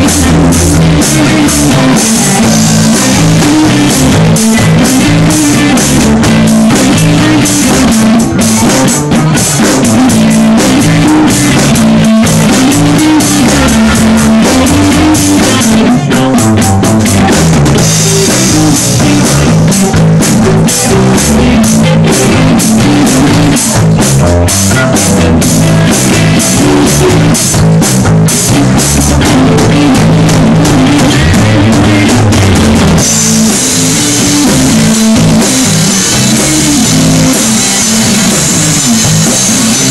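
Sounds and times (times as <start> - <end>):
busy drumming: 0.0 - 39.9
electric guitar: 0.0 - 39.9
repeating bass line: 0.0 - 39.9.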